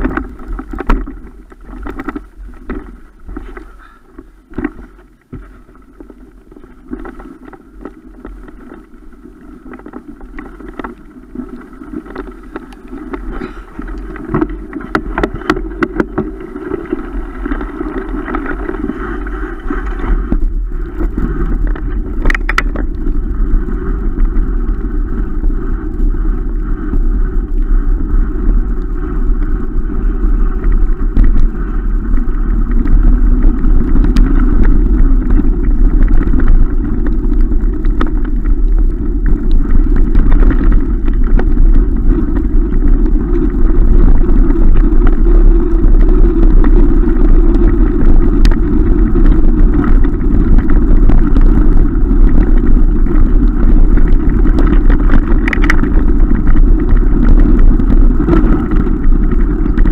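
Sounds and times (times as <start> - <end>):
bike rattling over bumps: 0.0 - 59.9
tyres rolling over dirt track: 0.0 - 59.9
wind noise on microphone: 0.0 - 59.9.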